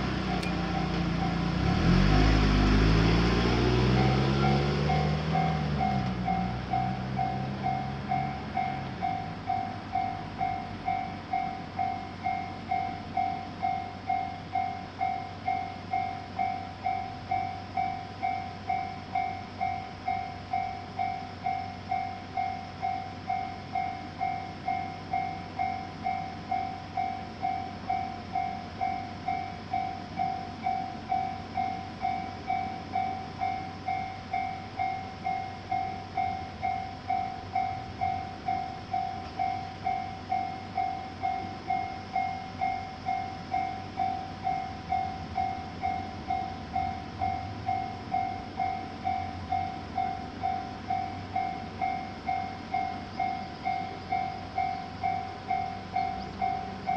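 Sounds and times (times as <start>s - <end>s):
railroad crossing bell ringing: 0.0s - 2.0s, 3.8s - 56.9s.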